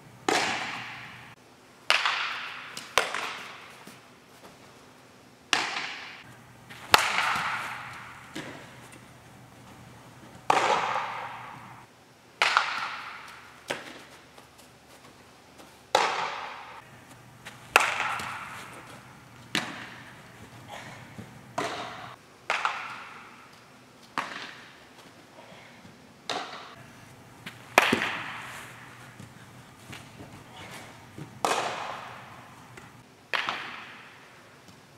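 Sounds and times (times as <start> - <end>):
baseballs cracking struck and caught: 0.2 - 4.1, 5.5 - 14.5, 15.9 - 25.2, 26.3 - 34.8.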